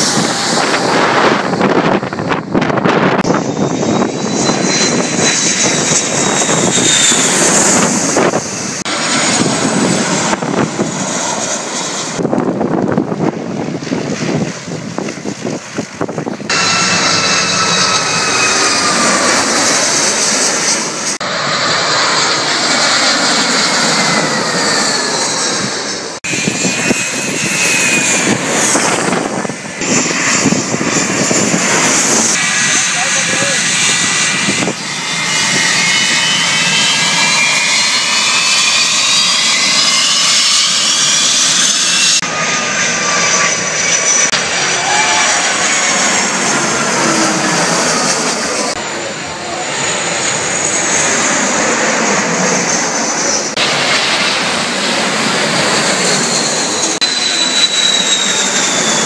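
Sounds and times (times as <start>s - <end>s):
jet aircraft passing overhead: 0.0s - 59.0s.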